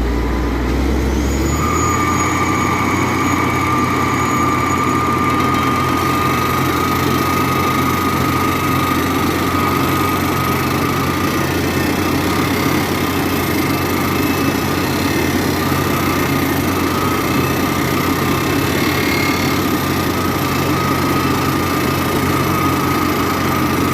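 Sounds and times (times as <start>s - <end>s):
drill rig drone and whine: 0.0s - 23.9s.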